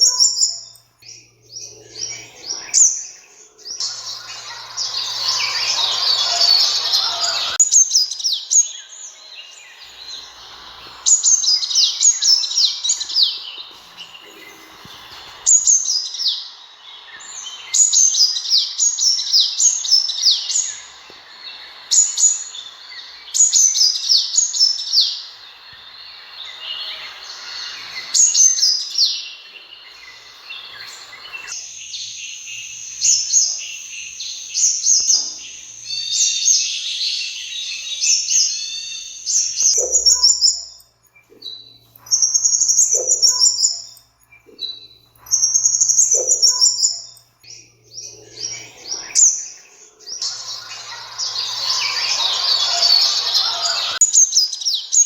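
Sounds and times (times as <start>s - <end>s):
sunbird chirps and trills: 0.0s - 55.0s.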